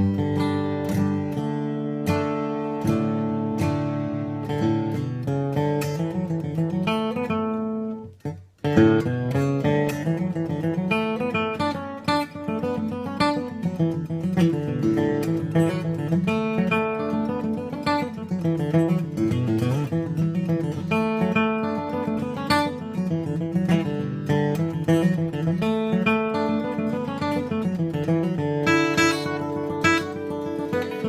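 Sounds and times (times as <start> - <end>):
acoustic guitar flatpicking: 0.0 - 31.0.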